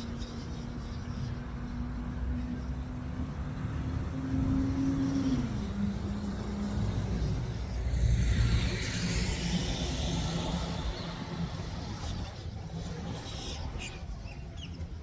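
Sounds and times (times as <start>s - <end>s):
vehicle engine hum: 0.2s - 14.3s.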